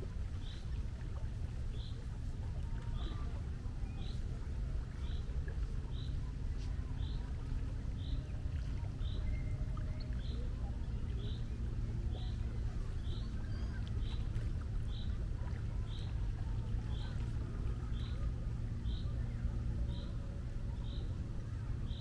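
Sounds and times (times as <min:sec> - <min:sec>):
sea rumble: 0:00.0 - 0:22.0
wind: 0:00.0 - 0:22.0.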